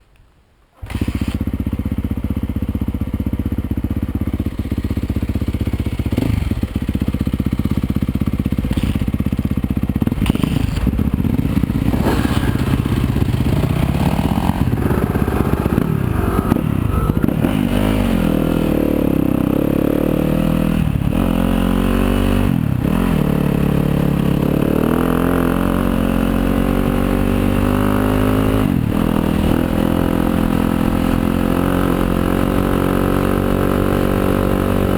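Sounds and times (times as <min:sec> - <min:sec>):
dirt bike engine revving: 0:04.5 - 0:34.9.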